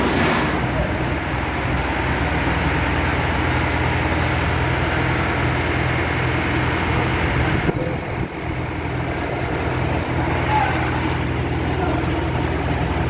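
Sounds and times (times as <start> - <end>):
heavy engine droning: 0.0 - 13.0.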